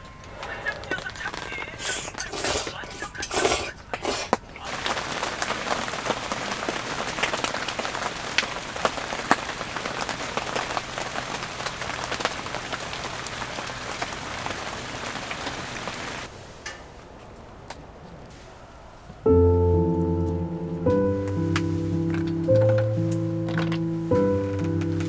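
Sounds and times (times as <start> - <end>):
steady rain falling: 0.0 - 3.3, 4.3 - 25.0
heavy raindrops striking close: 0.0 - 25.0.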